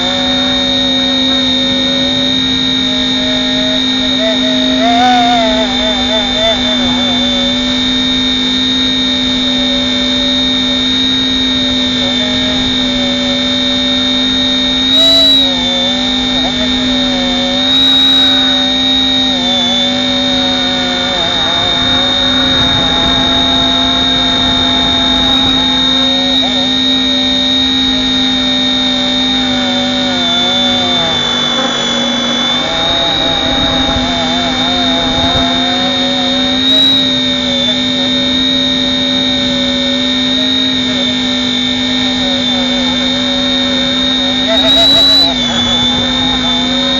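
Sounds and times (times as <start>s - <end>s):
rc helicopter rotors whining: 0.0s - 46.9s.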